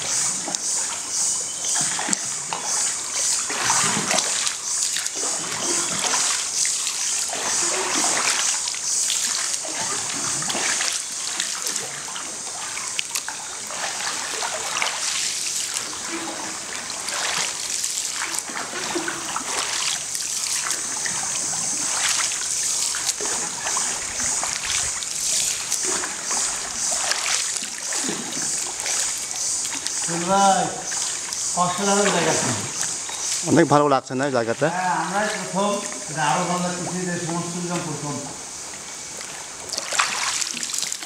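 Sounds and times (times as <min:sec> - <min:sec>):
water splashing and trickling: 0:00.0 - 0:41.0.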